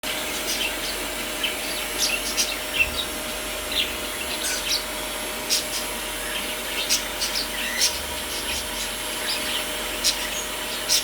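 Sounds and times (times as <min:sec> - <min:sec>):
parakeets chirping: 0:00.1 - 0:11.0.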